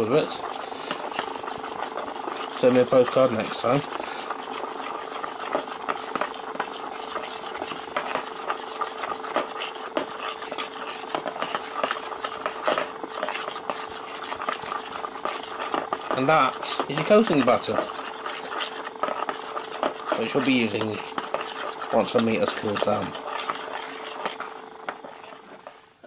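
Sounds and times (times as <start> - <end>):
faint steady hum: 0.0 - 26.0
spoon stirring batter in bowl: 0.0 - 26.0.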